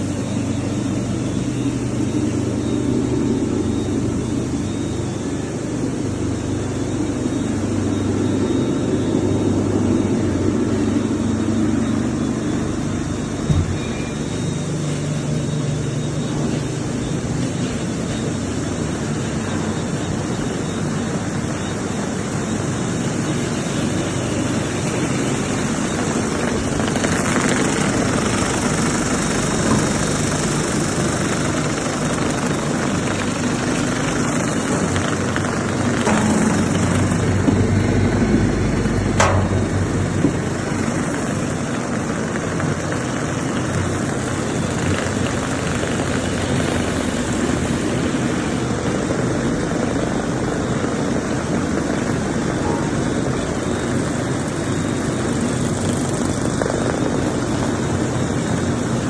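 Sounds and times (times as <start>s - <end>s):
mixer machine whirring: 0.0s - 59.0s.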